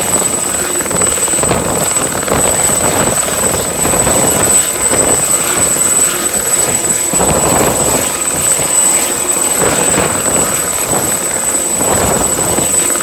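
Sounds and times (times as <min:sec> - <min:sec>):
helicopter turbine and rotor: 0:00.0 - 0:13.0
high-pitched whine: 0:00.0 - 0:13.0.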